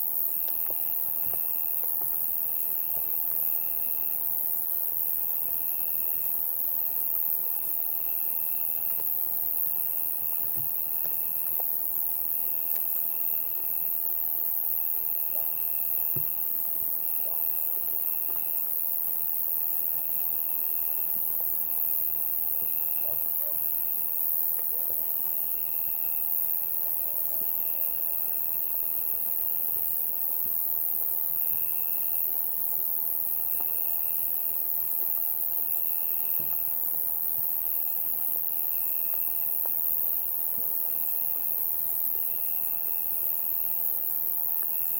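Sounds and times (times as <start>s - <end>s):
insect chorus buzzing: 0.0s - 44.9s
cricket trilling: 0.1s - 44.9s.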